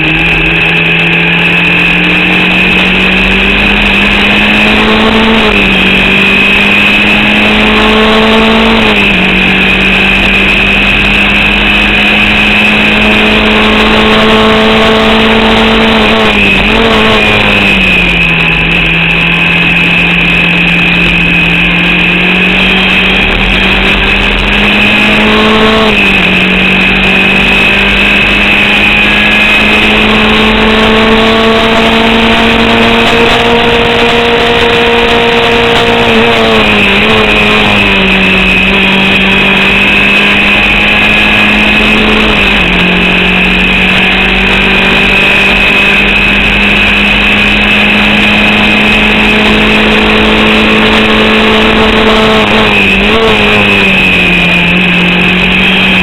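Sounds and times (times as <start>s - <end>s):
racing car engine at speed: 0.0s - 56.0s.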